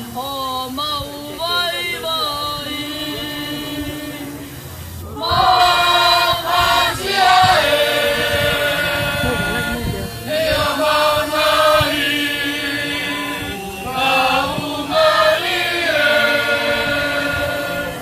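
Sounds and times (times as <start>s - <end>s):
choir singing: 1.0s - 18.0s.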